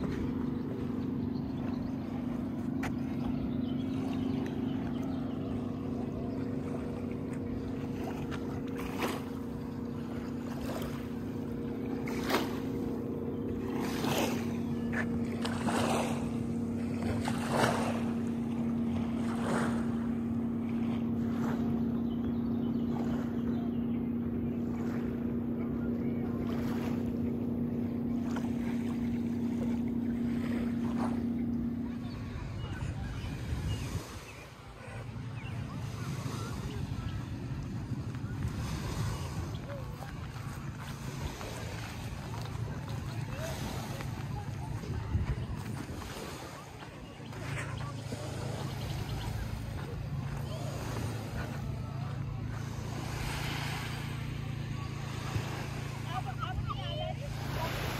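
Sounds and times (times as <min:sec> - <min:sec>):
motorboat engine running: 0:00.0 - 0:57.9.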